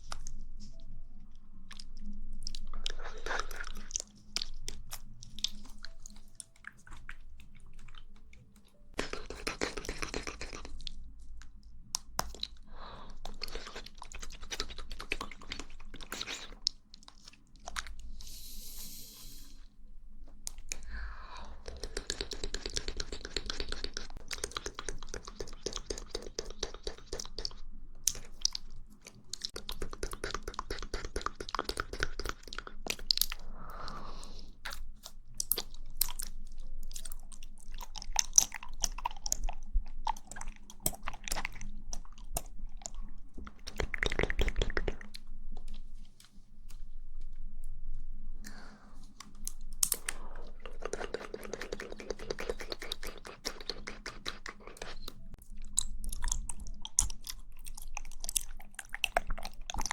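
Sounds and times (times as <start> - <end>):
person chewing wet clicks: 0.0 - 19.0, 20.4 - 47.4, 48.4 - 59.9.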